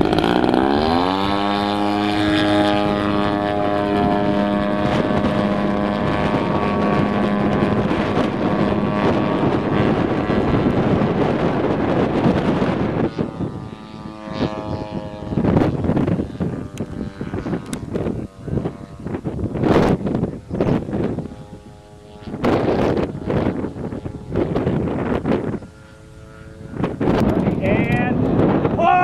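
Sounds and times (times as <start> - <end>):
model airplane engine drone: 0.0 - 29.0
wind on microphone: 0.0 - 29.0.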